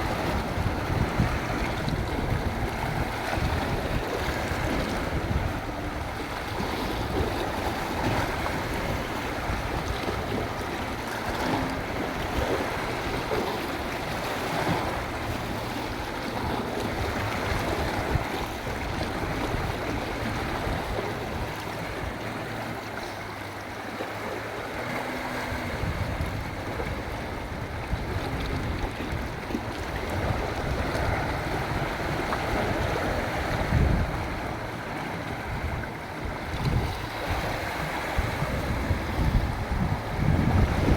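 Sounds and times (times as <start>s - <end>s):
wind on microphone: 0.0s - 22.8s, 24.5s - 40.9s
sea waves washing ashore: 0.0s - 40.9s.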